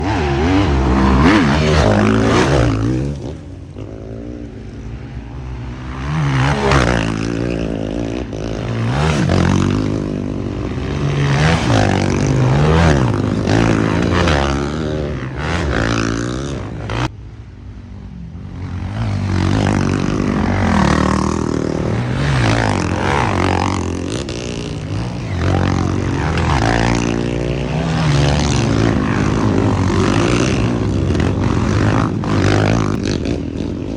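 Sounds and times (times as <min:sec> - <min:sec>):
motorcycle engine revving: 0:00.0 - 0:17.2, 0:18.1 - 0:33.9.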